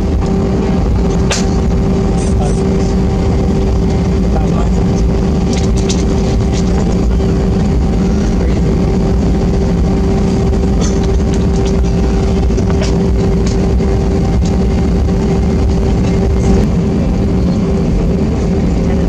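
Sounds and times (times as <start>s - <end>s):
aircraft cabin engine rumble: 0.0s - 19.0s
constant hum tone: 0.0s - 19.0s.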